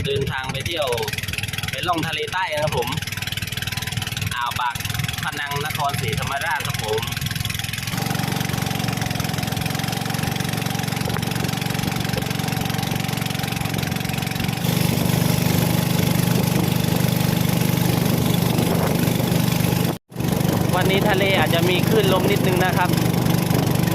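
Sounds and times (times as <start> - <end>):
boat engine running: 0.0 - 23.9.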